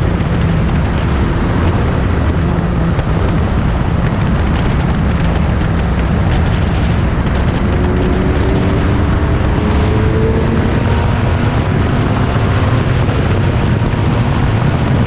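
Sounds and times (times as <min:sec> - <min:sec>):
racing car engine at high revs: 0:00.0 - 0:15.0
wind noise on microphone: 0:00.0 - 0:15.0.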